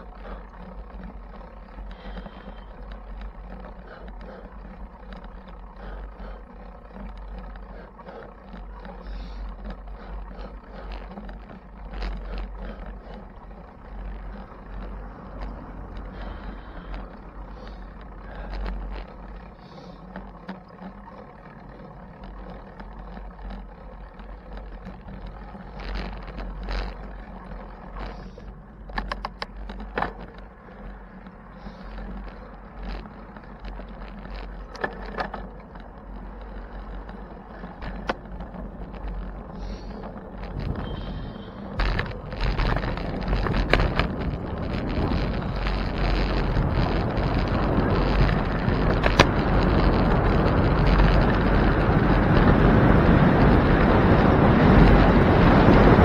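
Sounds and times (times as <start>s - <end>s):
sharp rattling clicks: 0.0s - 54.2s
road noise: 0.0s - 56.0s
wind rumble on microphone: 0.0s - 56.0s.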